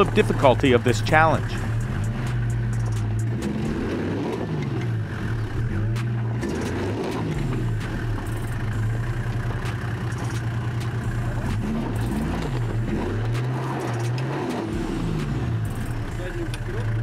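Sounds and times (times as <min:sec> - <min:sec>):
diesel engine revving under load: 0:00.0 - 0:17.0.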